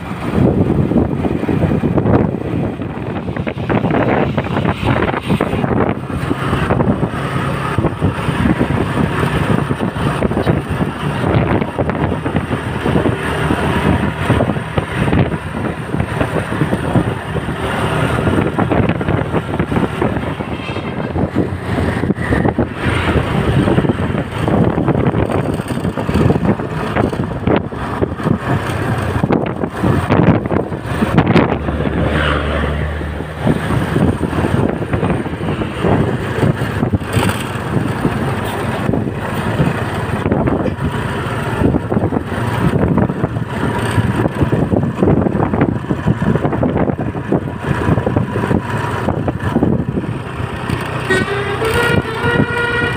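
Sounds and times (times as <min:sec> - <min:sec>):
bus engine: 0:00.0 - 0:52.9
road noise: 0:00.0 - 0:52.9
wind buffeting microphone: 0:00.0 - 0:52.9.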